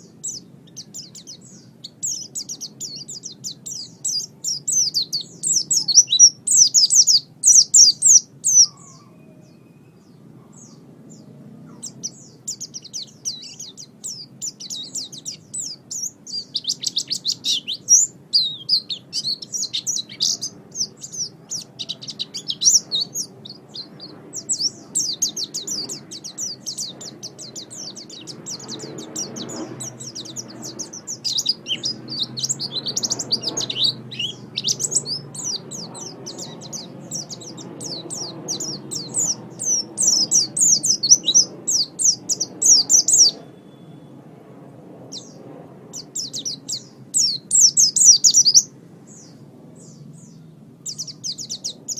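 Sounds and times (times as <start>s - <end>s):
bird twittering song: 0.0s - 44.2s, 45.0s - 51.9s.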